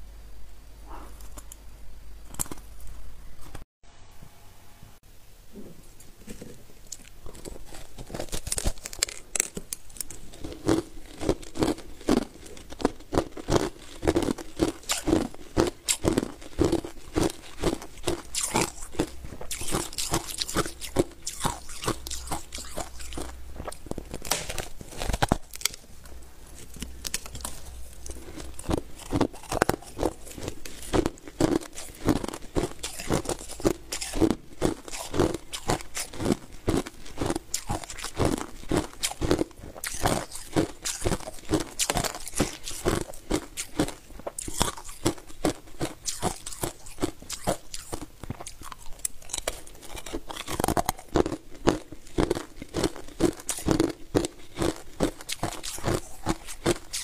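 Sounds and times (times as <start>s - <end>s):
crushed ice being chewed: 6.3s - 57.0s.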